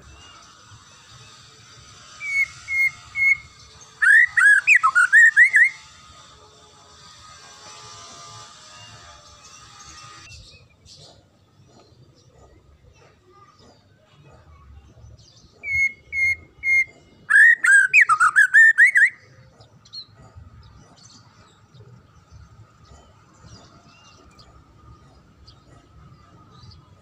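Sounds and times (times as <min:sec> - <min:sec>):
songbird singing: 0:00.0 - 0:06.3, 0:09.3 - 0:27.0.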